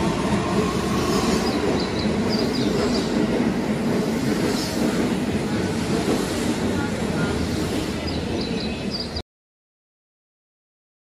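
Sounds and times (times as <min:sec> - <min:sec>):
train wheels rumbling on rail: 0:00.0 - 0:09.2.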